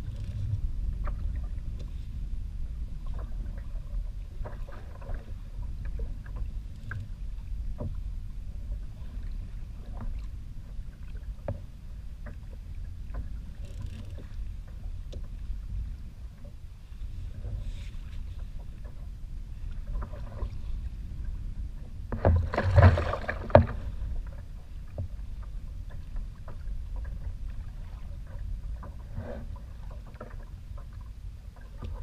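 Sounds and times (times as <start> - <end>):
light splashes and ticks: 0.0 - 2.1, 3.0 - 20.9, 21.8 - 32.0
steady low rumble: 0.0 - 32.0
waves lapping against plastic hull: 0.0 - 32.0.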